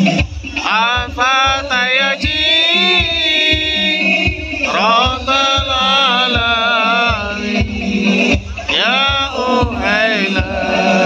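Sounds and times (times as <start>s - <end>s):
frame drums beating: 0.0s - 11.0s.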